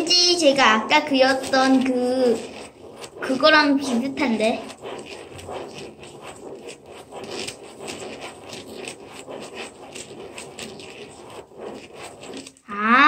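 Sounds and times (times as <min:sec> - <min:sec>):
pen scratching on paper: 0:00.0 - 0:13.0.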